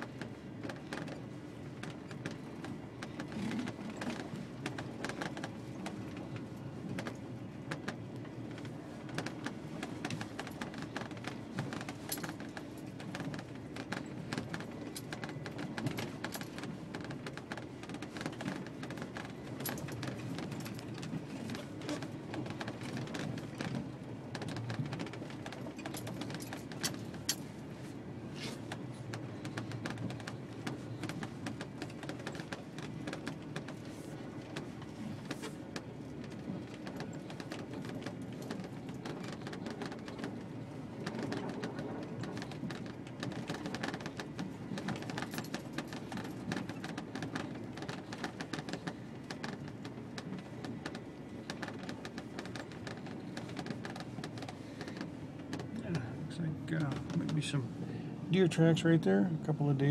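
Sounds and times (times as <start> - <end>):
cab rattles and clicks: 0.0 - 59.9.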